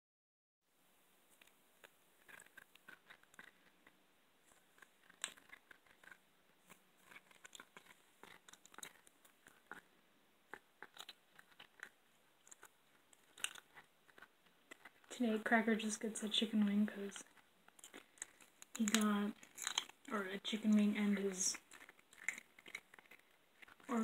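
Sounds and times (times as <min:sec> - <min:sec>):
cat crunching bone: 0:01.4 - 0:15.1, 0:17.1 - 0:20.1, 0:21.6 - 0:24.0.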